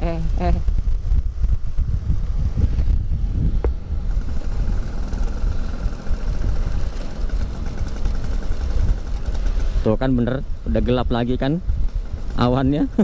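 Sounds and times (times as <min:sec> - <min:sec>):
scooter engine running: 0:00.0 - 0:13.0
wind rumble on microphone: 0:00.0 - 0:13.0.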